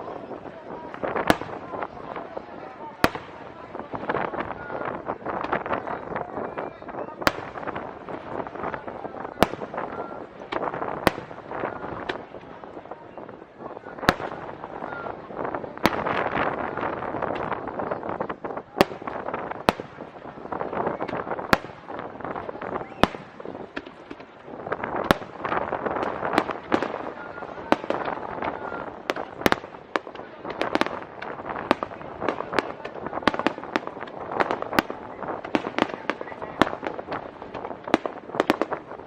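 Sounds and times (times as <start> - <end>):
fireworks bangs: 0.0 - 39.0
fireworks dense din: 0.0 - 39.0.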